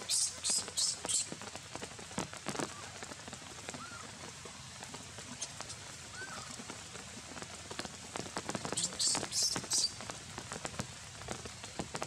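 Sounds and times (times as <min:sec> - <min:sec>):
rain pattering on wet ground: 0:00.0 - 0:12.0.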